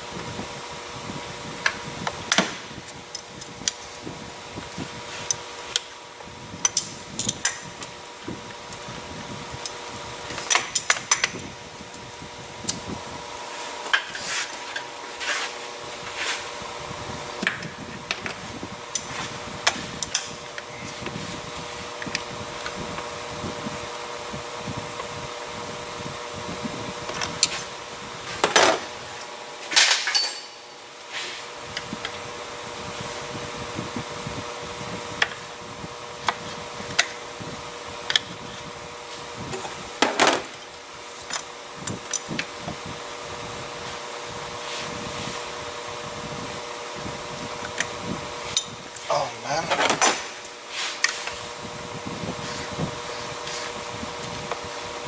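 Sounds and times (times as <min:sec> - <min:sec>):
fan hum: 0:00.0 - 0:55.0.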